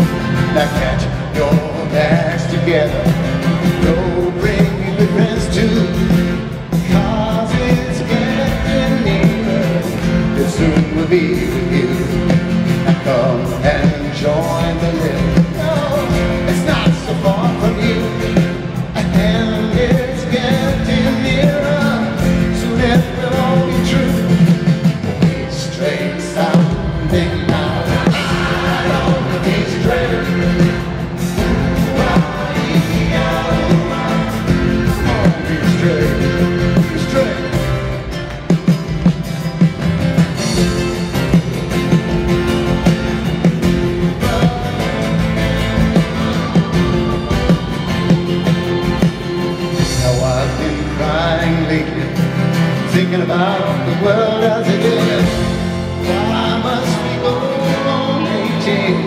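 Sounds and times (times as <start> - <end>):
person singing: 0.0 - 37.9, 43.8 - 59.0
live folk-rock band: 0.0 - 59.0.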